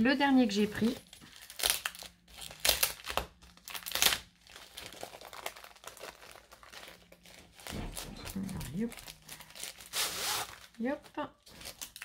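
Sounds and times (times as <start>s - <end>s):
plastic mailer crinkling: 0.5s - 12.0s.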